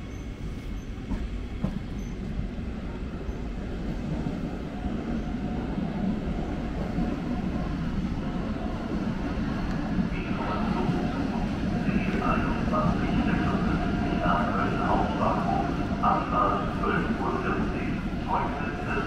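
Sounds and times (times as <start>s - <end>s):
train rumbling on tracks: 0.0s - 19.0s.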